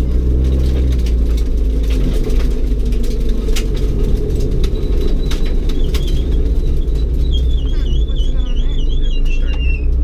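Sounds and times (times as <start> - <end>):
car engine running: 0.0 - 10.0
gravel clicks: 0.0 - 10.0
rumbling road noise: 0.0 - 10.0.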